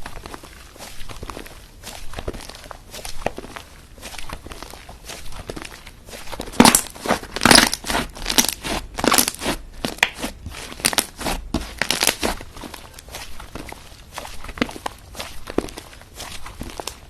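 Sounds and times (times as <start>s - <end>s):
slime squished by hands: 0.0s - 17.0s.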